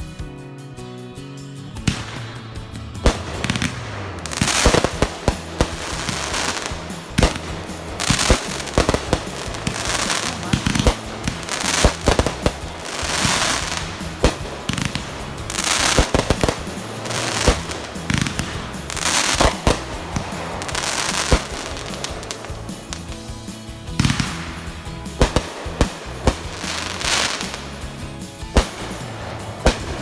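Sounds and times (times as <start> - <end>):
fireworks bangs: 1.8 - 30.0
fireworks crackling hiss: 1.8 - 30.0.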